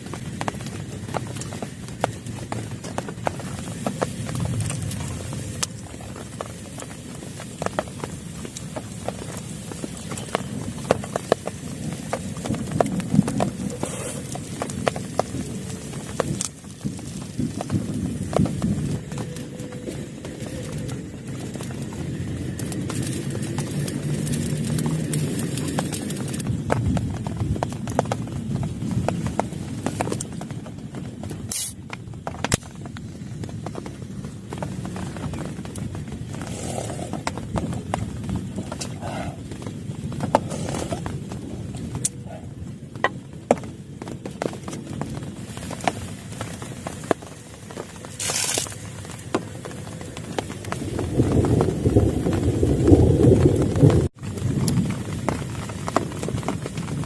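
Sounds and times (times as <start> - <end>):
raindrops tapping on plastic tarp: 0.0 - 57.0
steady rain rush: 0.0 - 57.0.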